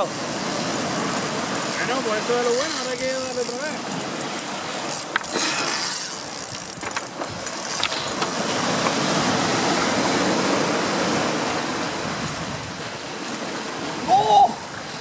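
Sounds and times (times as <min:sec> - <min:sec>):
waves breaking on stony beach: 0:00.0 - 0:15.0.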